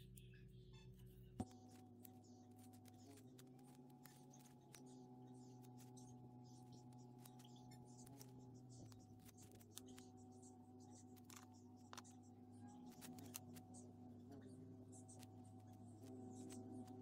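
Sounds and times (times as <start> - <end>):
low steady hum: 0.0 - 17.0
masking tape clicks and rustles: 0.9 - 17.0.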